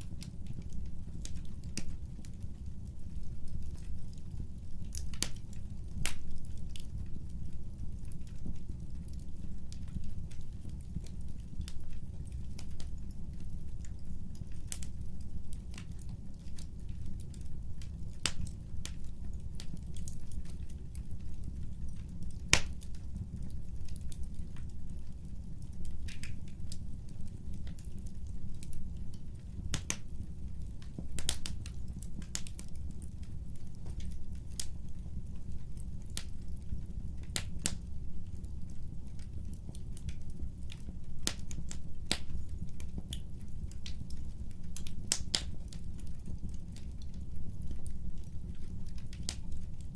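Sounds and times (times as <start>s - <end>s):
burning logs crackling and popping: 0.0s - 49.9s
fire low rumble: 0.0s - 49.9s.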